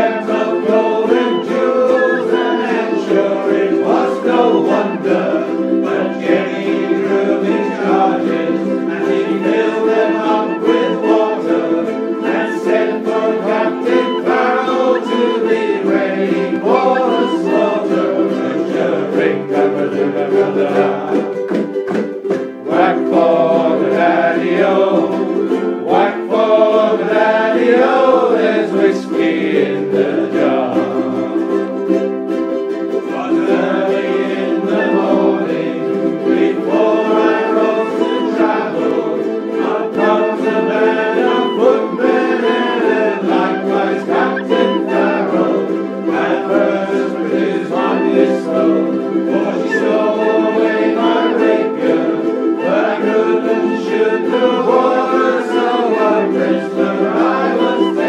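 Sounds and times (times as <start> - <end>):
penny whistle folk melody: 0.0 - 58.0
strummed ukulele: 0.0 - 58.0.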